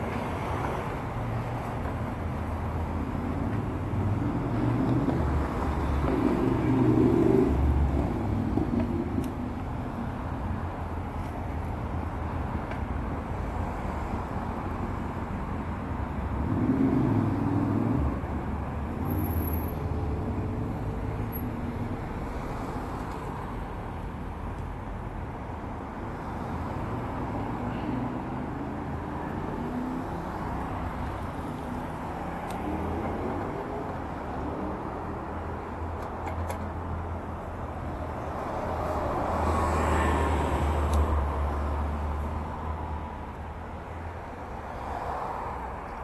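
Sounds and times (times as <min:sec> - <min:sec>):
hum of traffic: 0:00.0 - 0:46.0
vehicles passing: 0:00.0 - 0:46.0.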